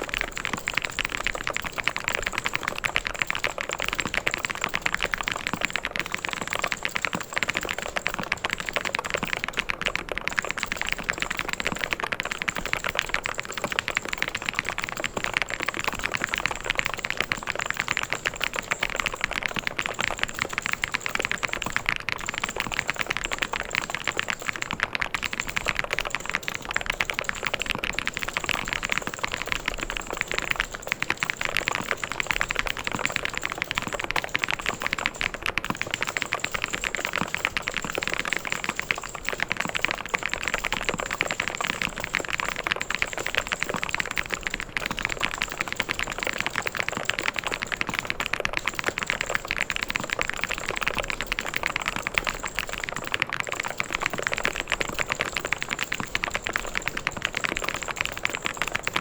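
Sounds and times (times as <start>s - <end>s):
fast mechanical keyboard typing: 0.0s - 59.0s.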